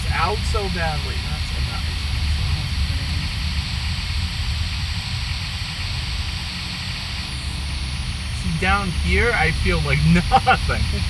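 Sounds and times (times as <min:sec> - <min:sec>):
car engine and road rumble: 0:00.0 - 0:11.0
even hiss: 0:00.0 - 0:11.0.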